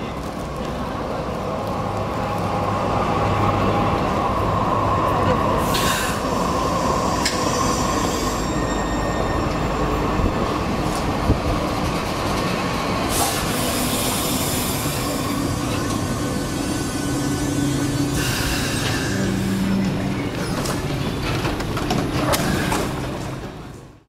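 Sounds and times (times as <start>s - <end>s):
tram wheels rumbling on track: 0.0s - 24.0s.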